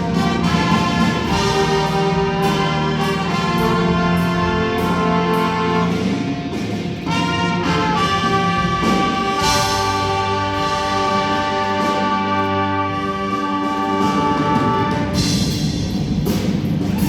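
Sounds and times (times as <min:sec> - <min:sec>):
brass and woodwinds playing chords: 0:00.0 - 0:15.6.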